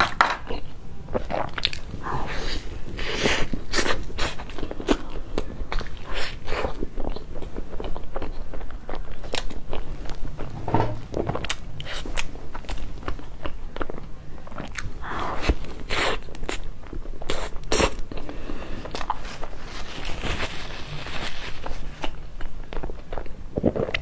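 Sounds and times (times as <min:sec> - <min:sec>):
person chewing pastry: 0:00.4 - 0:24.0.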